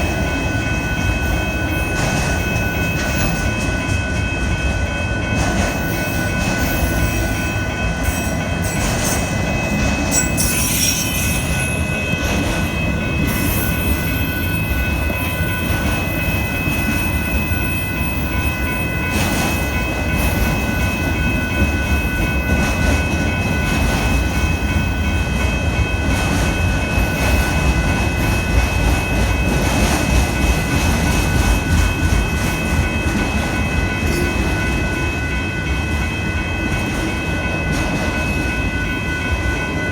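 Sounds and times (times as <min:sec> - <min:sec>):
high ringing tone: 0:00.0 - 0:39.9
train wheels rumbling on rail: 0:00.0 - 0:39.9.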